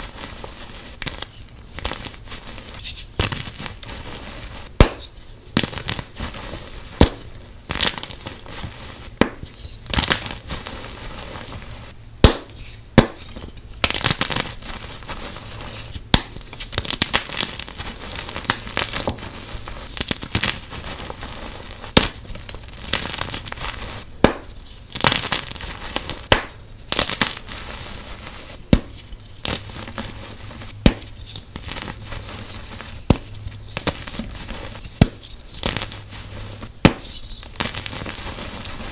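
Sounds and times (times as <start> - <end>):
chalk crumbling: 0.0 - 38.9.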